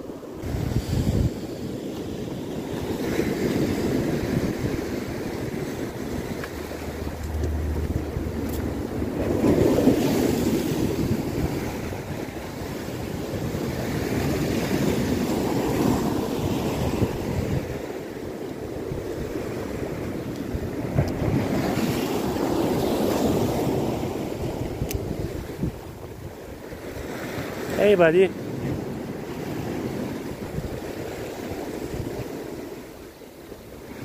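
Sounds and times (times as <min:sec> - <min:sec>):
waves breaking on pebbly shore: 0:00.0 - 0:25.8, 0:26.4 - 0:34.0
wind buffeting microphone: 0:00.0 - 0:27.7, 0:28.3 - 0:34.0.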